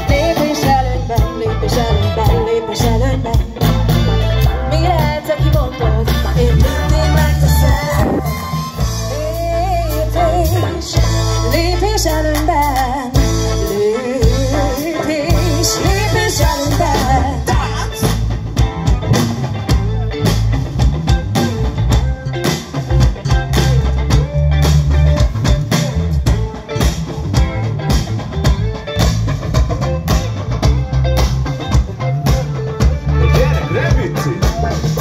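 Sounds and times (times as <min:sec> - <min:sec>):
live band playing pop: 0:00.0 - 0:35.0.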